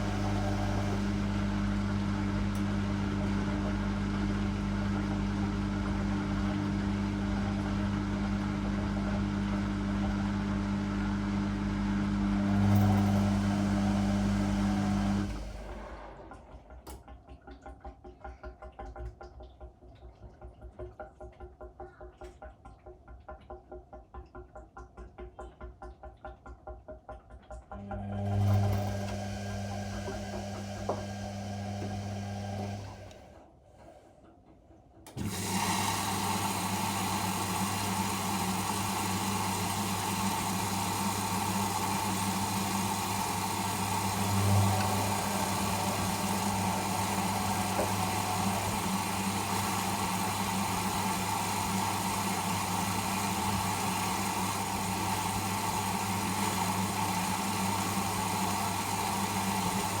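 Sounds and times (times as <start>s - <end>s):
washing machine motor hum: 0.0s - 22.6s, 27.3s - 60.0s.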